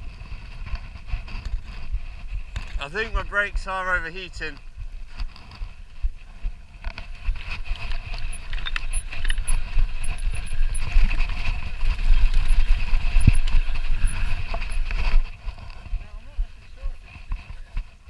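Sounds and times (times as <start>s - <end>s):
bike rattling: 0.0s - 18.0s
wind rumbling on microphone: 0.0s - 18.0s.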